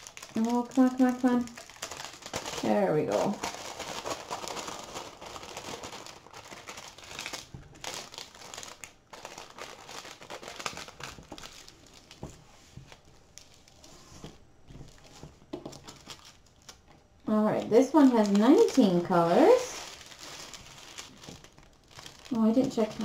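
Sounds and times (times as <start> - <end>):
plastic film crinkling: 0.0 - 23.0.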